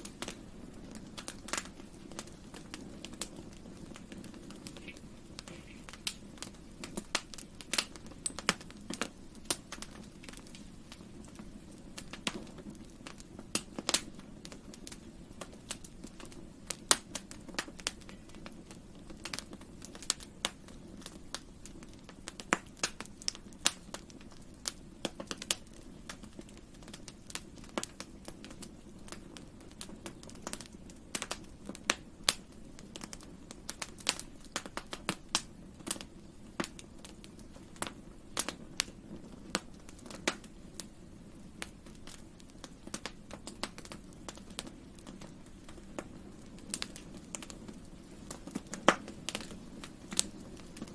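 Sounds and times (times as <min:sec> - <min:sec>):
campfire crackling and popping: 0:00.0 - 0:50.9
low roar of burning fire: 0:00.0 - 0:50.9.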